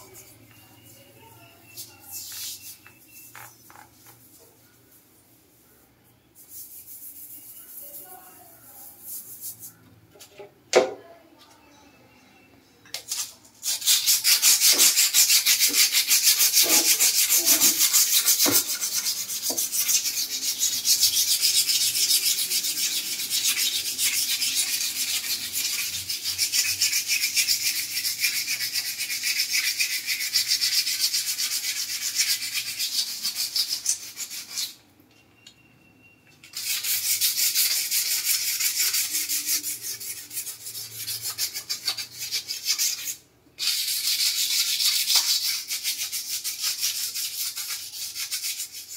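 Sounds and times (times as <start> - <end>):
hand scrubbing wall tiles: 0.0 - 5.8, 6.4 - 10.3, 13.1 - 34.8, 36.5 - 48.9.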